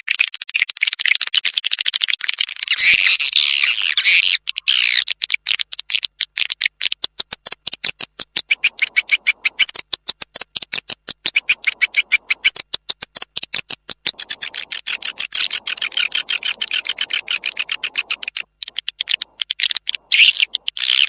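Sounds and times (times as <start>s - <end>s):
clicking bird chirps: 2.5s - 21.0s.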